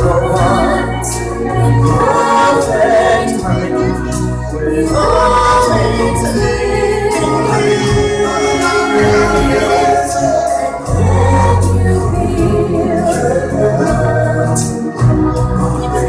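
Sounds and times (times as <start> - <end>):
choir singing with instruments: 0.0 - 16.0.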